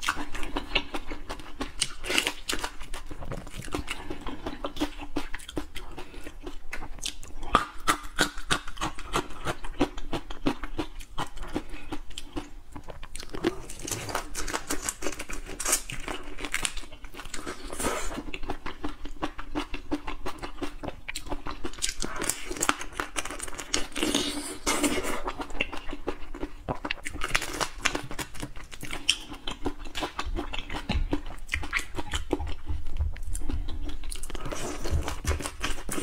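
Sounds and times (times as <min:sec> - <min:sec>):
chewing and crunching: 0:00.0 - 0:36.0.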